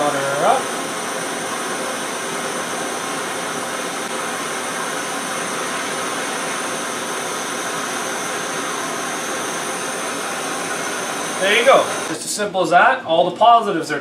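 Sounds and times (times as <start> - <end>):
gas torch hissing: 0.0 - 12.2.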